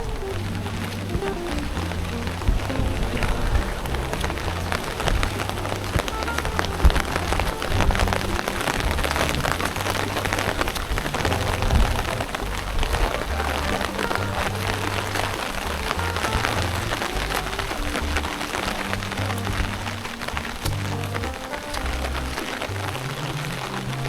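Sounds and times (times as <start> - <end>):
heavy rain on an umbrella: 0.0 - 24.0
low background music: 0.0 - 24.0.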